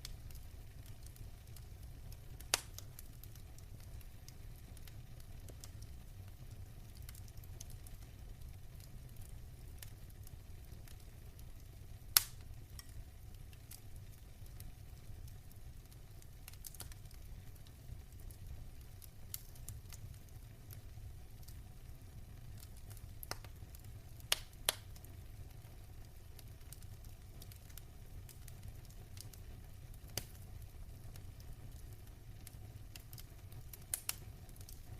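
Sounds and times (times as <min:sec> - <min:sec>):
fire popping: 0:00.0 - 0:34.9
wood fire crackling: 0:00.0 - 0:34.9.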